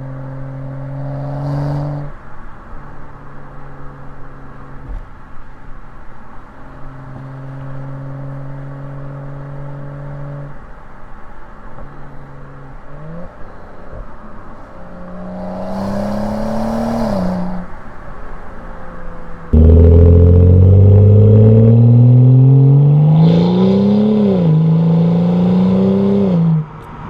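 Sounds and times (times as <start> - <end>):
car engine accelerating and upshifting: 0.0 - 27.0.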